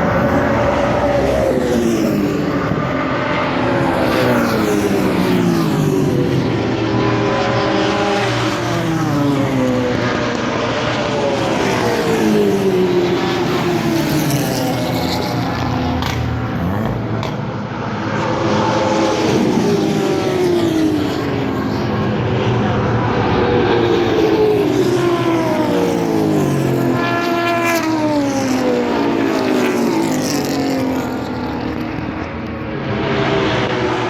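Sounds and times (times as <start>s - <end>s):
race cars passing at speed: 0.0s - 34.0s.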